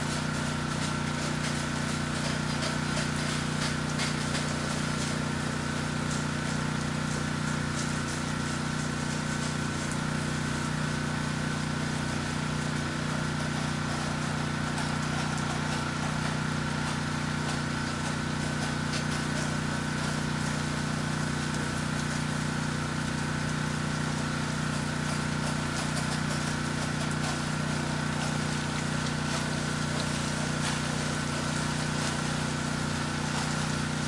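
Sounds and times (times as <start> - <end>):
pressure washer engine running: 0.0 - 34.0
pressure washer hiss: 0.0 - 34.0.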